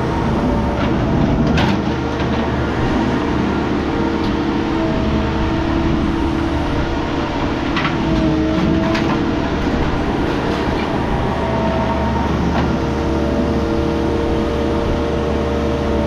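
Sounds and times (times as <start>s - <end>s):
hydraulic pump humming: 0.0s - 16.0s.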